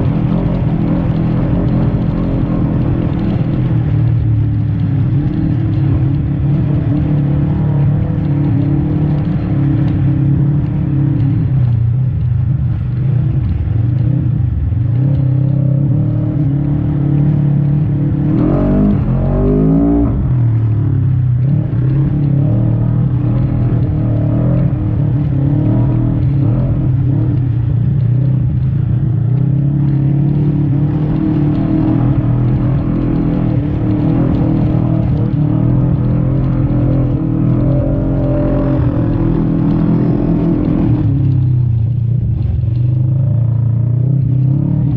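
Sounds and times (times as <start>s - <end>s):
utility vehicle engine revving: 0.0s - 44.9s.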